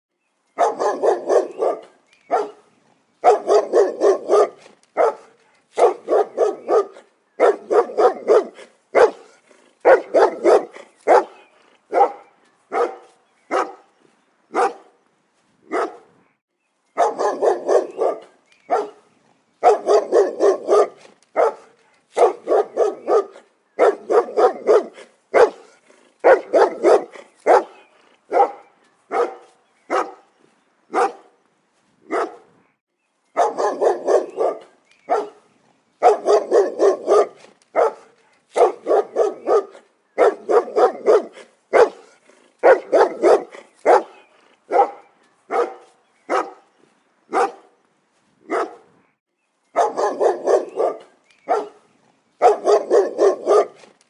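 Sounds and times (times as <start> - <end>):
dog barking: 0.6 - 2.6, 3.2 - 13.9, 14.5 - 14.9, 15.7 - 16.1, 17.0 - 19.0, 19.6 - 30.2, 30.9 - 31.3, 32.1 - 32.5, 33.4 - 35.4, 36.0 - 46.7, 47.3 - 47.7, 48.5 - 48.9, 49.8 - 51.8, 52.4 - 53.9.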